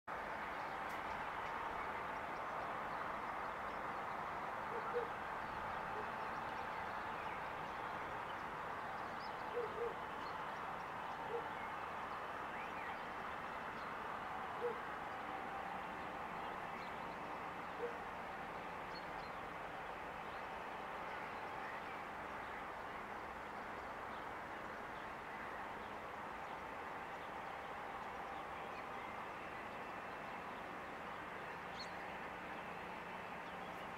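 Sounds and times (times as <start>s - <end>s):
steady background noise: 0.1s - 33.9s.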